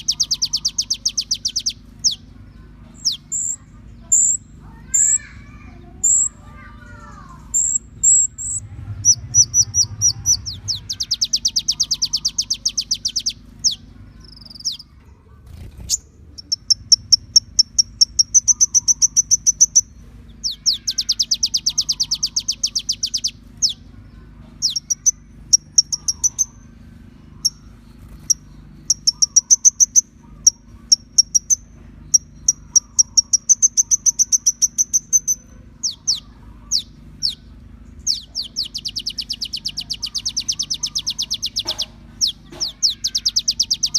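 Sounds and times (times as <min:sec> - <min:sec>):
bird trills and chirps: 0:00.0 - 0:43.9
faint low hum: 0:00.0 - 0:43.9.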